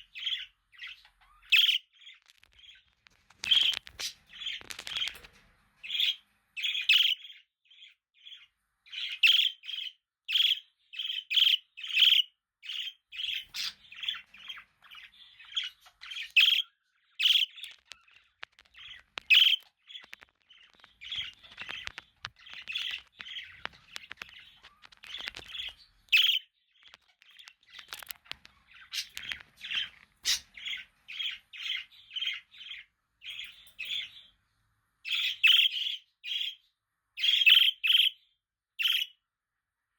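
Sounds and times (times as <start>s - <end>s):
budgerigars chirping: 0.0s - 34.4s, 35.0s - 39.2s.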